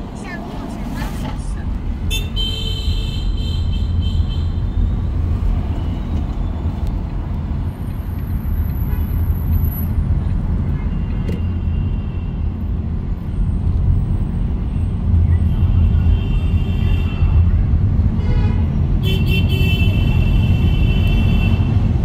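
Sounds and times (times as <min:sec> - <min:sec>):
road and engine rumble: 0:00.0 - 0:22.0.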